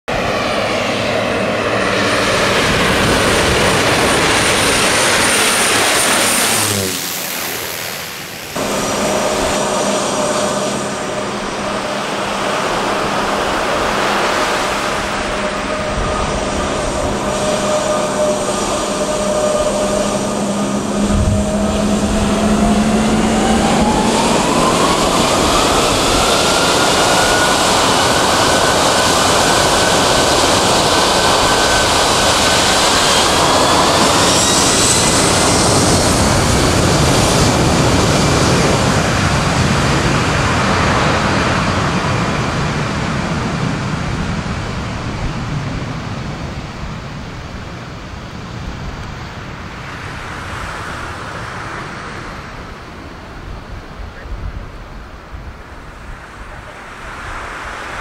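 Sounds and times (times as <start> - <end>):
jet engines whining: 0.1 - 58.0.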